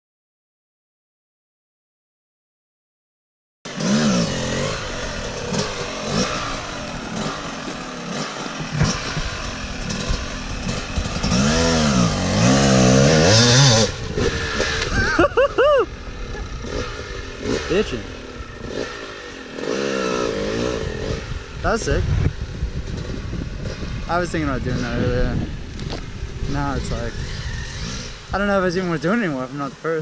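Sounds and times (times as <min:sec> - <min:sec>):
dirt bike engine revving: 0:03.7 - 0:30.0.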